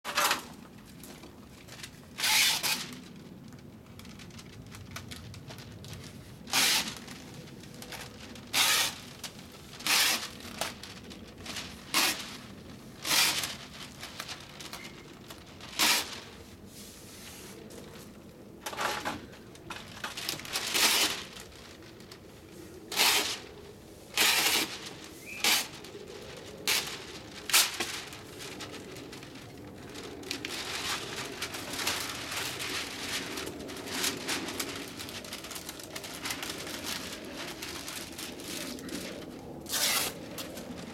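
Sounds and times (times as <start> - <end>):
paper crinkling and tape tearing: 0.1 - 40.9.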